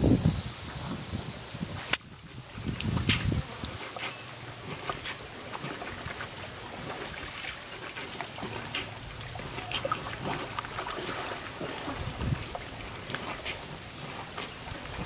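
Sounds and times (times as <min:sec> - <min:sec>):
water sloshing and splashing: 0:00.7 - 0:15.0
water dripping: 0:01.9 - 0:15.0.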